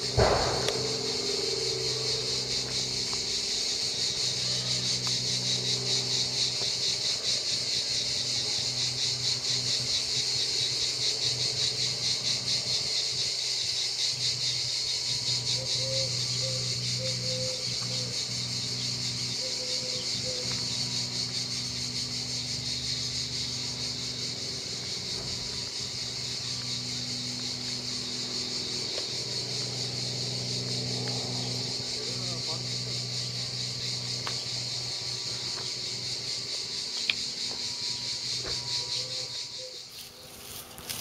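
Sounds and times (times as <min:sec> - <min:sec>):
cicadas buzzing in chorus: 0:00.0 - 0:41.0.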